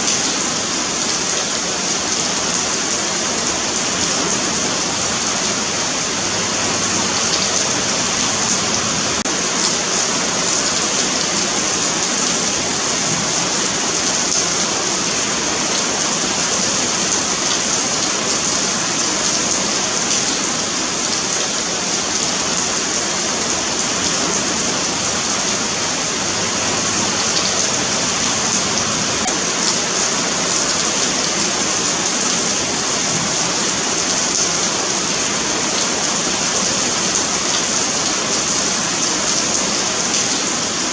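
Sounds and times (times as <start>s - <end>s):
rain on pavement: 0.0s - 40.9s.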